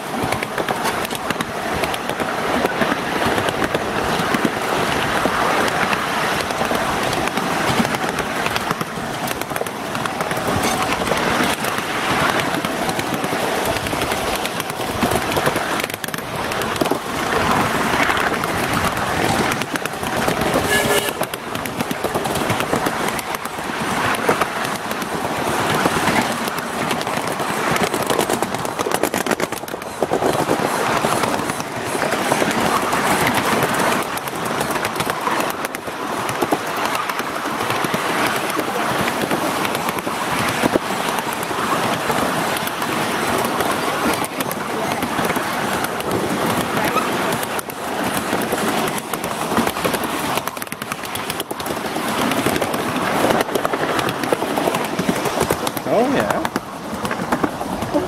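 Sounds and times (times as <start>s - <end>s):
small train wheels clattering on rail: 0.0s - 58.0s.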